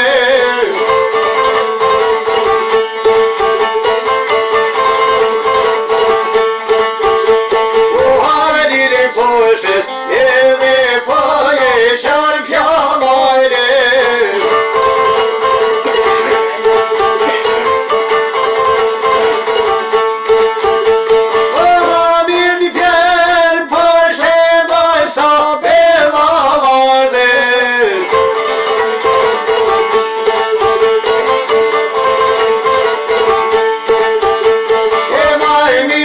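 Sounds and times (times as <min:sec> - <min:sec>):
plucked lutes with drone: 0:00.0 - 0:36.0.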